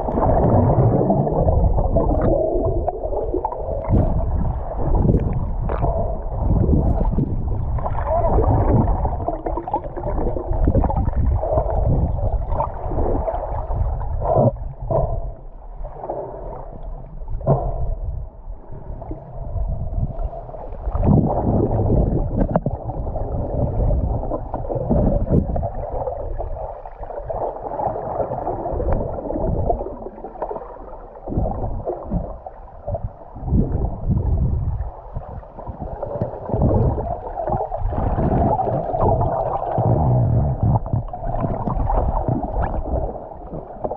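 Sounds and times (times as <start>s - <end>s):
water gurgling and swishing: 0.0s - 43.9s.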